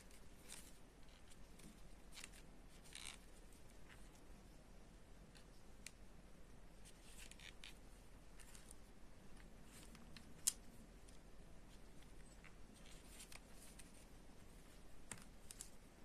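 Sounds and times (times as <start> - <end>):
soft rustles of handled yarn: 0.0 - 16.0.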